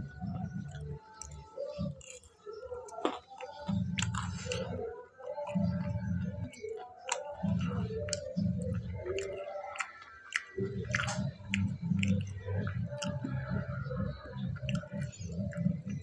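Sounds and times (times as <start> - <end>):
man chewing food: 0.0 - 16.0.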